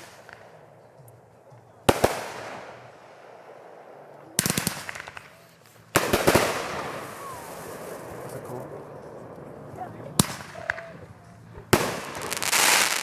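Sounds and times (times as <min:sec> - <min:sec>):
crackling fireworks reports: 0:01.8 - 0:13.0
fireworks bangs: 0:01.9 - 0:13.0.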